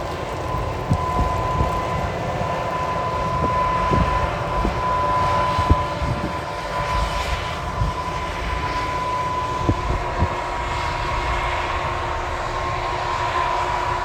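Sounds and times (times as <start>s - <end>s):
high whine: 0.0s - 14.0s
tractor engine rumble: 0.0s - 14.0s.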